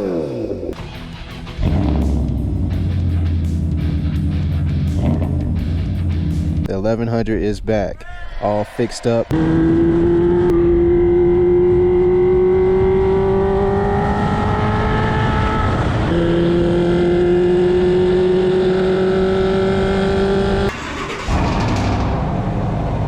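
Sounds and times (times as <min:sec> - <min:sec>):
engine accelerating: 0:00.0 - 0:06.7, 0:09.3 - 0:23.0.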